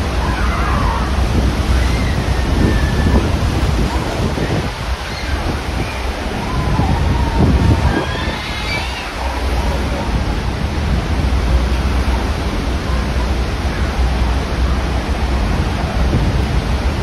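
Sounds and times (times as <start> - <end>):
churning water: 0.0 - 17.0
faint voices: 0.0 - 17.0
waterfall roaring: 0.0 - 17.0.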